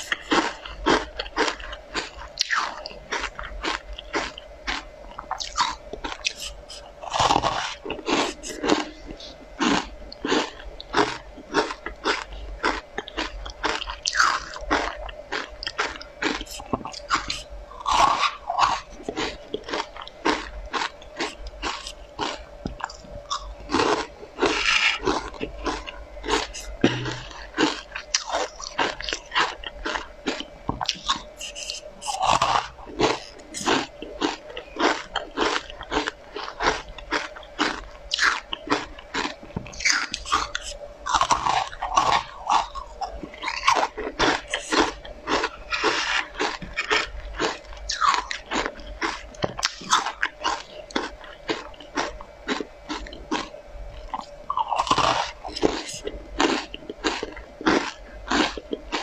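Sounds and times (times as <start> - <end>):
crunching and chewing sweets: 0.0 - 59.0.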